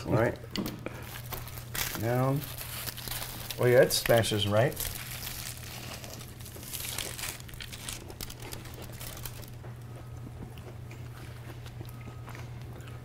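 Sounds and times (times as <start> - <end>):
steady low hum: 0.0 - 13.0
crunching of crispy food bites: 1.1 - 13.0.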